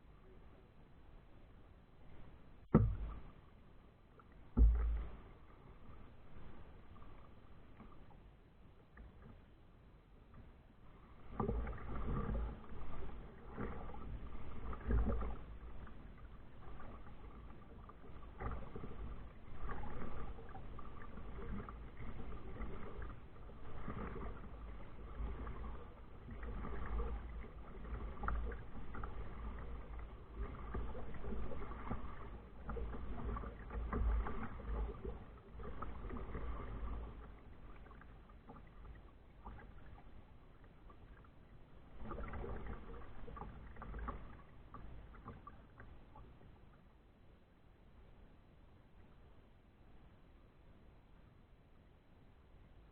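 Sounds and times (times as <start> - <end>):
paddle splashing in water: 2.1 - 47.0.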